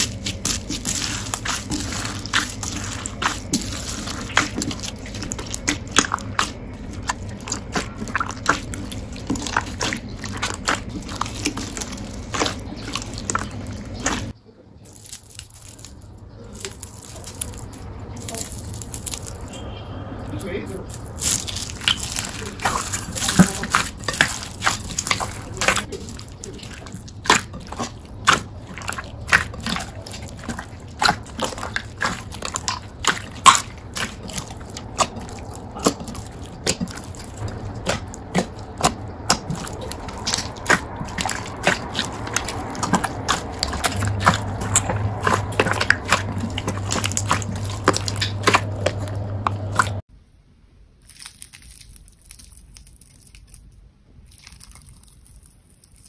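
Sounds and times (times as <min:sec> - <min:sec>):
low hum: 0:00.0 - 0:50.0
slime squelching: 0:00.0 - 0:50.1, 0:51.0 - 0:56.0.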